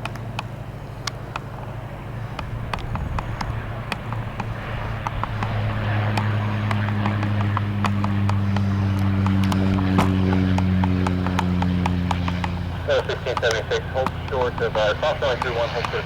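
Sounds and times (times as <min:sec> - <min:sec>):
aircraft engines humming: 0:00.0 - 0:16.0
sharp clicks: 0:02.3 - 0:16.0.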